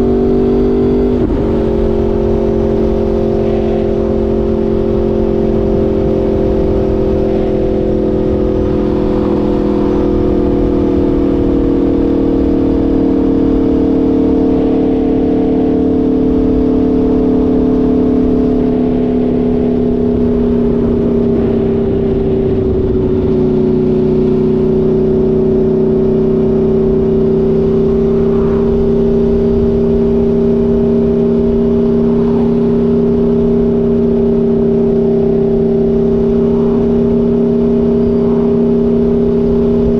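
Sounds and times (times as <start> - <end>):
motorcycle engine running: 0.0 - 39.9
steady rushing noise: 0.9 - 13.8, 16.3 - 39.9.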